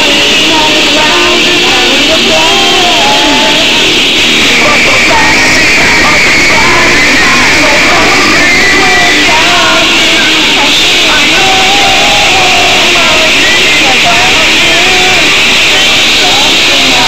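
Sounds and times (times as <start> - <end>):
woman singing punk rock: 0.0 - 17.0.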